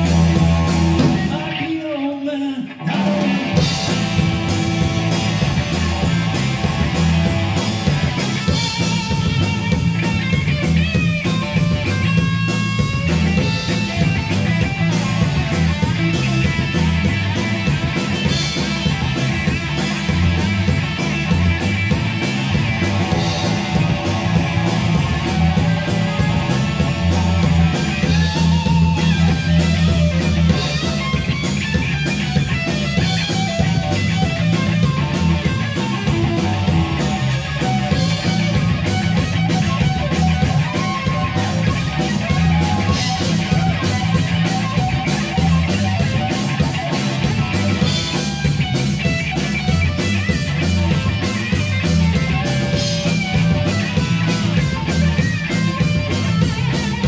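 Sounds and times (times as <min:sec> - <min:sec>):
electric bass: 0:00.0 - 0:01.7, 0:02.8 - 0:57.0
drum kit: 0:00.0 - 0:57.0
electric guitar: 0:00.0 - 0:57.0.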